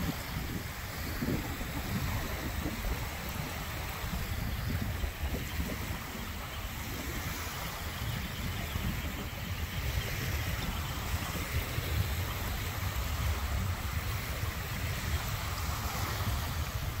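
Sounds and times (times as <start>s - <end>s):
small waves washing up shore: 0.0s - 17.0s.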